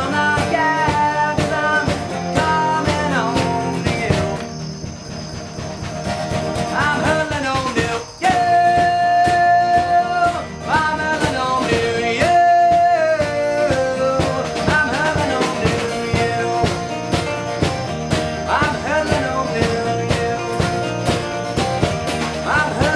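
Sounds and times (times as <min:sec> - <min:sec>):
man singing long notes: 0:00.0 - 0:04.5, 0:06.7 - 0:17.2, 0:18.4 - 0:21.2, 0:22.3 - 0:22.9
acoustic guitars strummed: 0:00.0 - 0:22.9
drums: 0:00.0 - 0:22.9.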